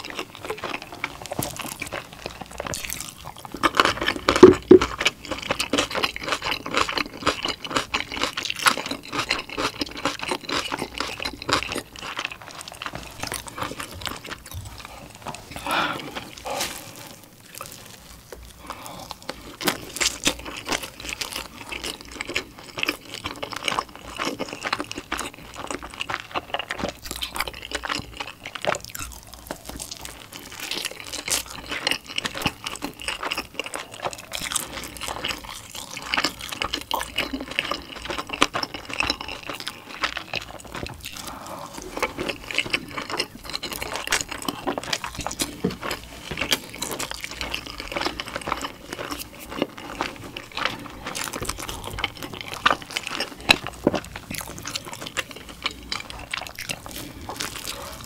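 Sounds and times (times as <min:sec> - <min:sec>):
wet chewing: 0:00.0 - 0:58.0.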